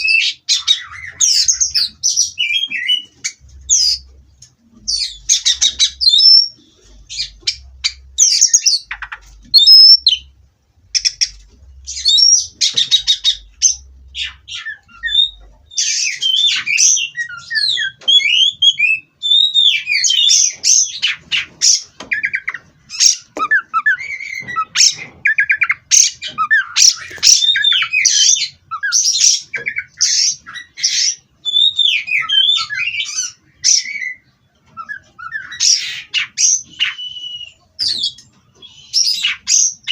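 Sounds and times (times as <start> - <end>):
bird singing whistled trills: 0.0 - 4.1, 4.8 - 10.3, 10.9 - 39.9.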